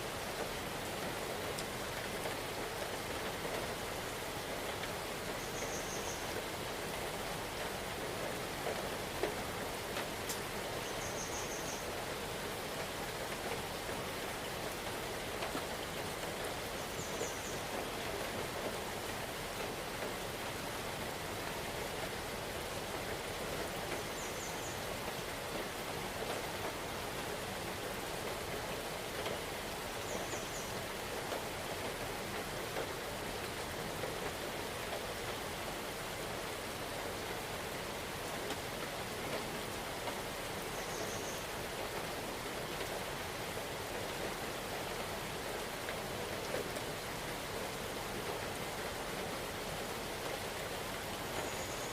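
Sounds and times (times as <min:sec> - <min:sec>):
steady rain in forest: 0:00.0 - 0:51.9.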